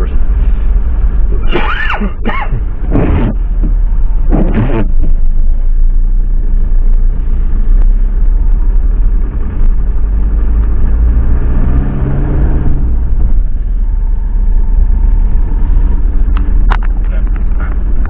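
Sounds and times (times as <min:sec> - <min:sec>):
van engine and road rumble: 0:00.0 - 0:18.0.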